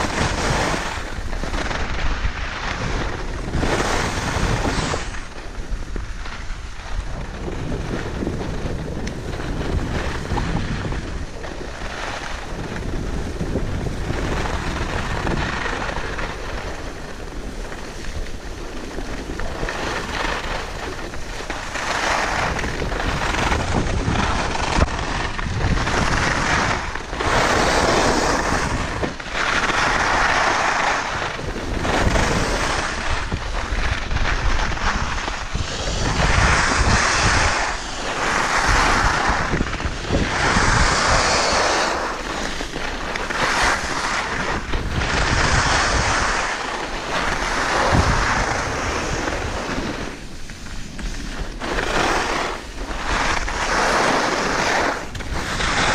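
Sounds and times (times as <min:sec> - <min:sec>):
skis scraping over snow: 0:00.0 - 0:55.9
wind rumbling on microphone: 0:00.0 - 0:55.9.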